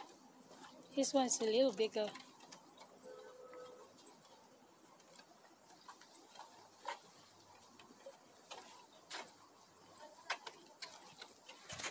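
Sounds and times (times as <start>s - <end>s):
animal feet tapping on metal grating: 0.0s - 11.9s.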